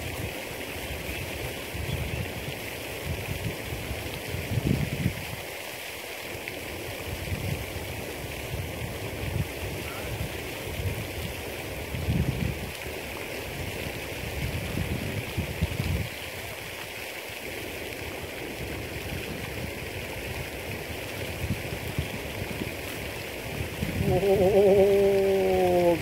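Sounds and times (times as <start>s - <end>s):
wind blowing across microphone: 1.0s - 5.4s, 7.0s - 12.9s, 13.6s - 16.6s, 18.6s - 26.0s.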